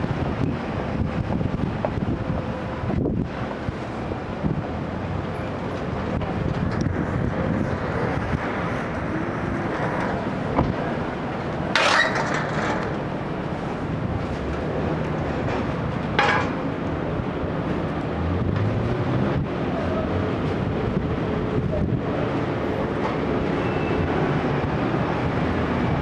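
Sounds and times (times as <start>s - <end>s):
vehicle traffic: 0.0s - 26.0s.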